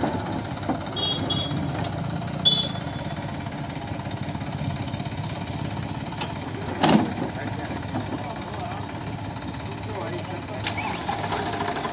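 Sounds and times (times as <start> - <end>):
tractor diesel engine idling: 0.0 - 11.9.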